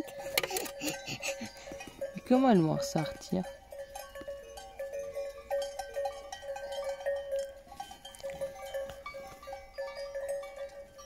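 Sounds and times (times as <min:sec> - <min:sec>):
sheep bells clinking: 0:00.0 - 0:11.0.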